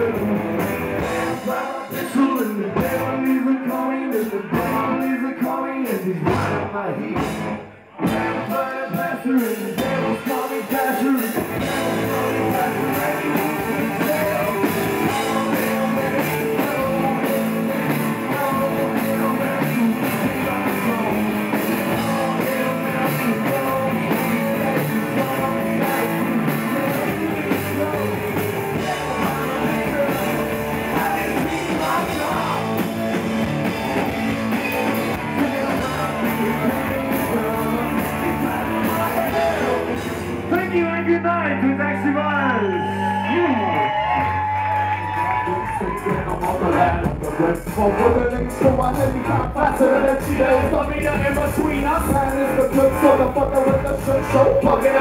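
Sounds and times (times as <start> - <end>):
electric guitar: 0.0 - 55.0
rock band with singer: 0.0 - 55.0.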